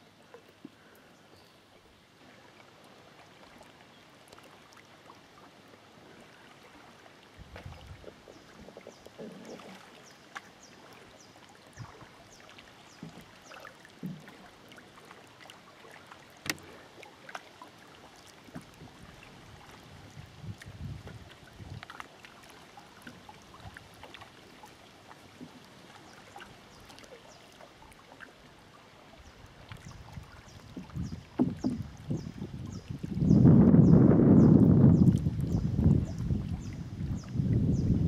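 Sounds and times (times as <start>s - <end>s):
water lapping gently: 0.0s - 38.0s
small splashes: 2.2s - 33.2s.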